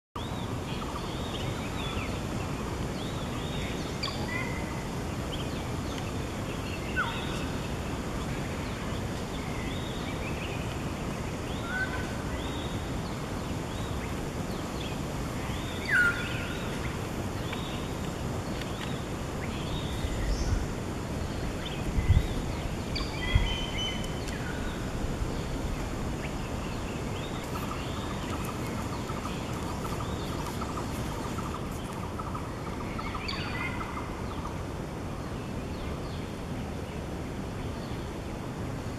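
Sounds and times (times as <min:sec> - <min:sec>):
steady hiss: 0:00.2 - 0:38.9.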